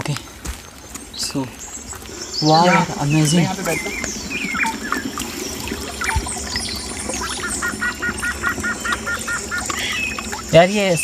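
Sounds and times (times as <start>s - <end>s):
birds chirping: 0.0s - 11.0s
stream water running: 0.0s - 11.0s
bird rapid calls: 1.0s - 10.7s.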